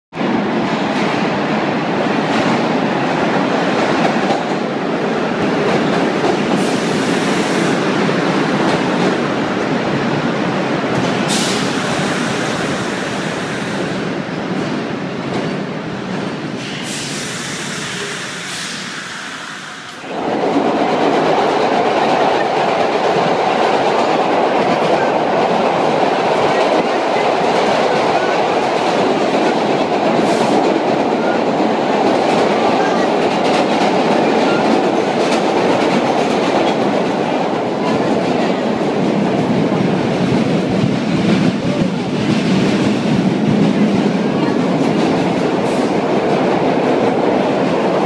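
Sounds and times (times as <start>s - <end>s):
rumble and clatter inside train car: 0.1s - 48.0s
train wheels rumbling on rail: 0.1s - 48.0s.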